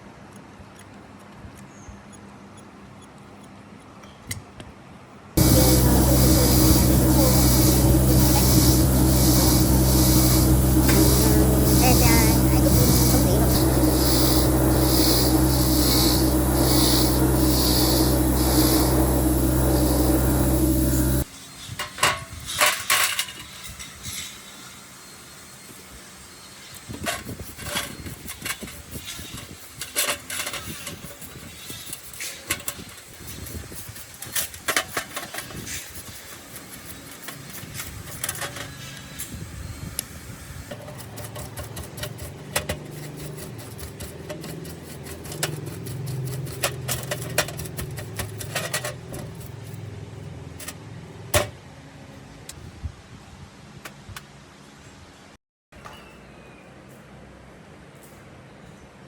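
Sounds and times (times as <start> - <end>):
steady mechanical hum: 0.0 - 55.4.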